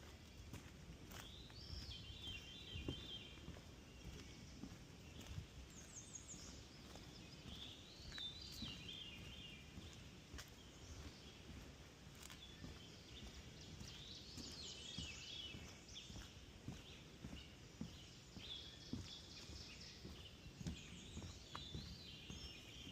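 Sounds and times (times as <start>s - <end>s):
faint birdsong: 0.0s - 22.9s
footsteps on wooden boardwalk: 0.0s - 22.9s.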